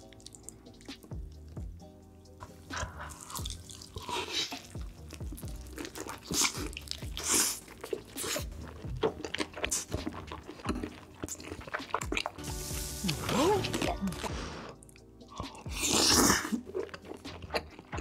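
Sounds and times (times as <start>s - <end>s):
wet crunching and chewing: 0.0s - 1.7s, 2.4s - 12.4s, 13.6s - 18.0s
lo-fi background music: 0.0s - 18.0s.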